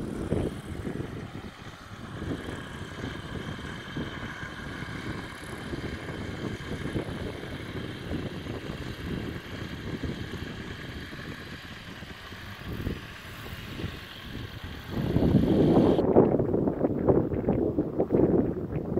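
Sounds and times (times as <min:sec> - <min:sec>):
distant light aircraft engine drone: 0:00.0 - 0:18.9
wind buffeting the microphone: 0:00.0 - 0:18.9.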